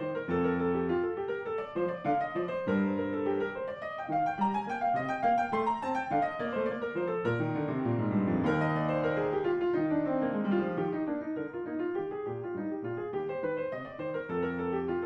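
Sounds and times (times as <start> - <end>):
classical keyboard music: 0.0 - 15.0.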